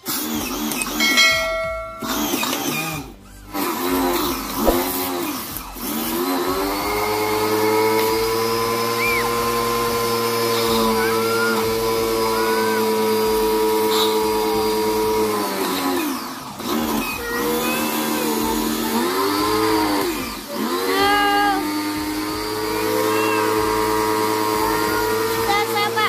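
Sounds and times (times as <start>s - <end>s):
pressure washer motor whine: 0.0s - 26.0s.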